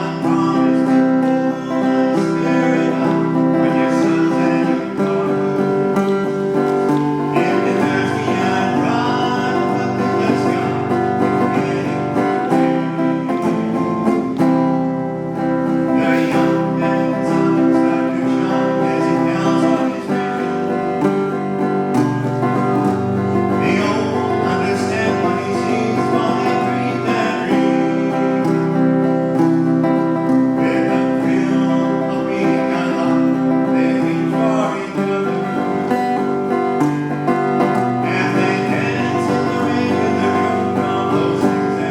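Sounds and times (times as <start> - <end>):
acoustic guitar strumming chords: 0.0 - 41.9.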